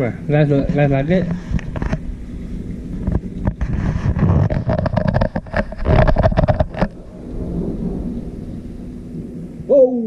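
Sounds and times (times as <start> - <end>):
gusty wind rushing with crackles: 0.0 - 10.0
rain hiss: 0.0 - 10.0.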